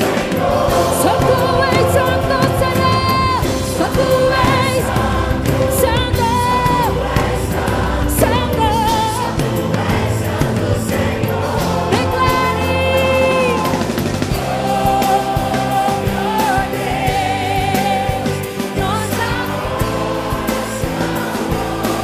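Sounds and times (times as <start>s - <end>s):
full band playing: 0.0s - 22.0s
singers with vibrato: 0.0s - 22.0s.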